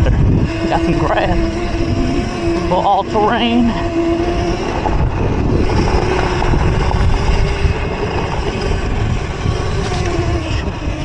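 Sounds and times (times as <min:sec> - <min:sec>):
electric motor whine: 0:00.0 - 0:11.0
wind rumble on microphone: 0:00.0 - 0:11.0.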